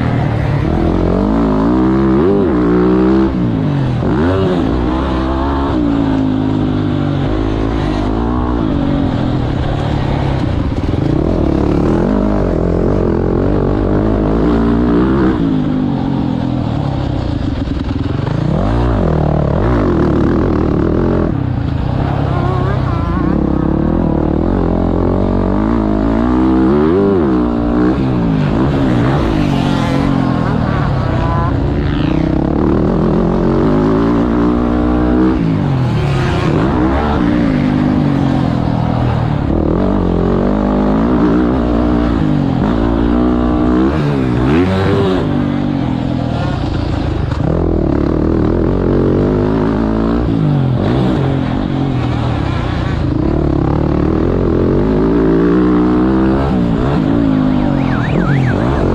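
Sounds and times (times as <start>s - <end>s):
motocross bike engine revving: 0.0s - 58.9s.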